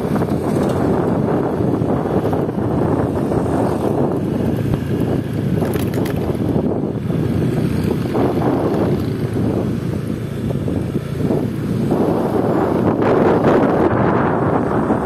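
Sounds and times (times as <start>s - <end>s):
vehicle road and engine noise: 0.0s - 15.0s
wind buffeting microphone: 0.0s - 15.0s.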